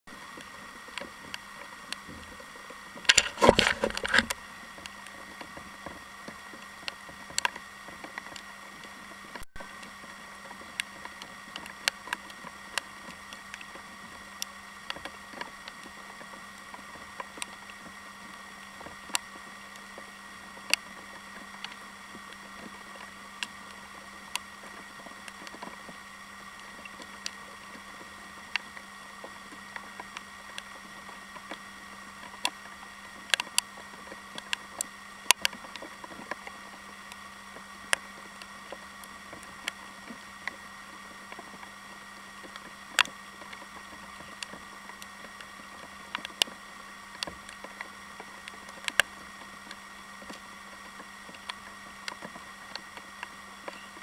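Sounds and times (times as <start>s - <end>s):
faint steady hum: 0.1s - 54.0s.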